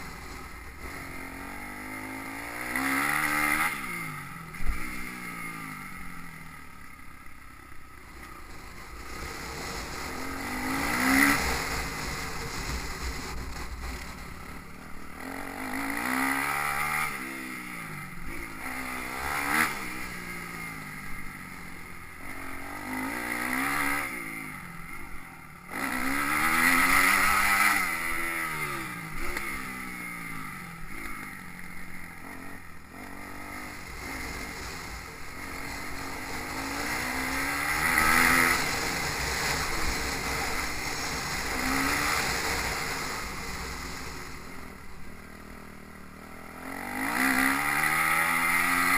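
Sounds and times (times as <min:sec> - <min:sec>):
motorbike engine revving: 0:00.0 - 0:48.9.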